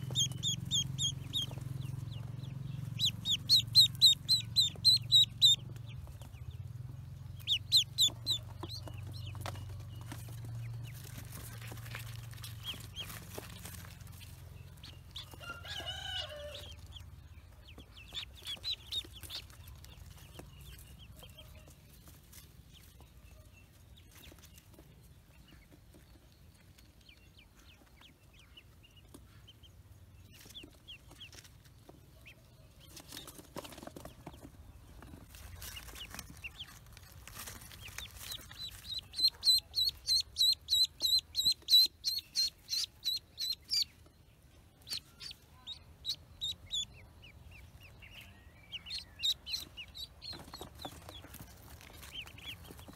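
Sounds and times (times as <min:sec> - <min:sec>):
ducklings peeping: 0:00.0 - 0:52.9.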